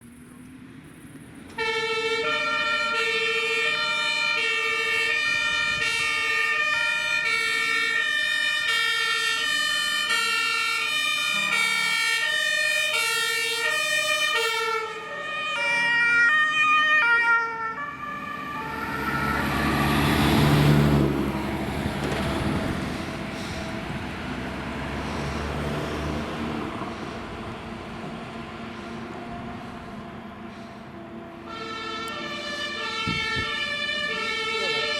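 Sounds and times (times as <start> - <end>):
fire truck engine rumbling past: 0.1 - 34.9
fire engine two-tone siren: 1.5 - 34.9.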